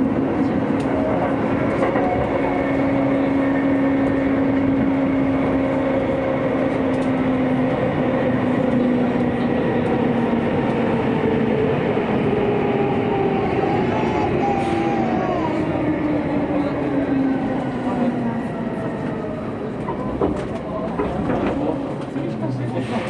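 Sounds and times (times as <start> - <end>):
wheels roaring on rail: 0.0 - 23.0.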